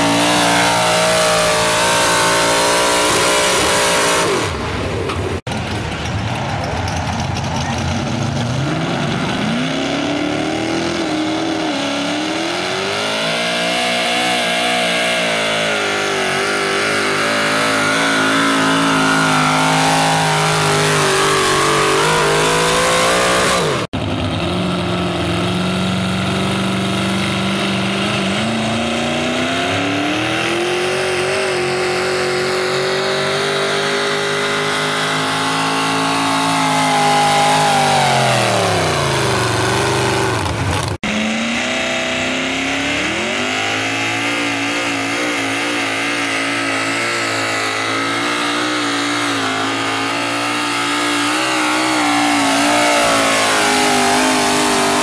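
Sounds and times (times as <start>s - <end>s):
tractor engines at full throttle: 0.0s - 55.0s.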